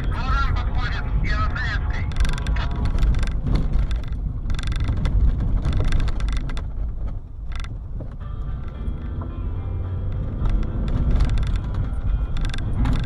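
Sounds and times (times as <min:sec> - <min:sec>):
car engine and tyres rumbling: 0:00.0 - 0:13.0
clatters and knocks over bumps: 0:02.0 - 0:13.0.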